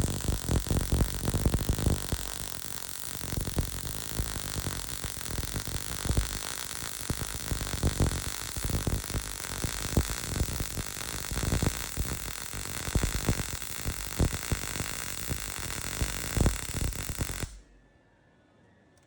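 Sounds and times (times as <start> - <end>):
arc welding crackling hiss: 0.0 - 17.6.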